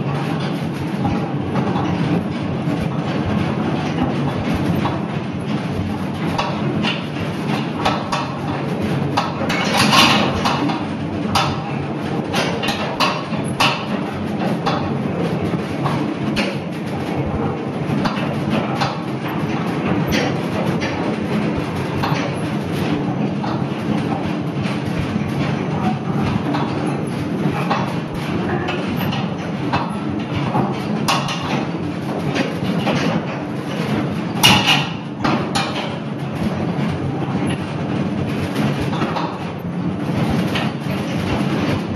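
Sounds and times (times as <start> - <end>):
wheels clicking and knocking: 0.1 - 41.9.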